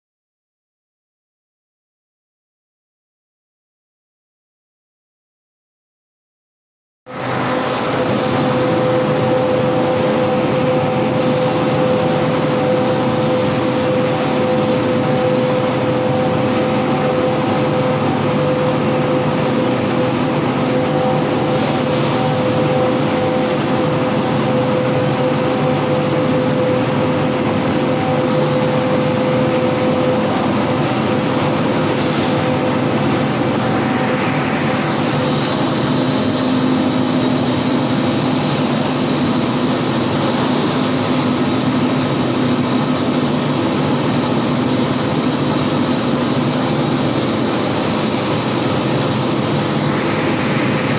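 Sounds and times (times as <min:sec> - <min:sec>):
air compressor droning: 0:07.1 - 0:50.9
steady whine: 0:07.1 - 0:50.9.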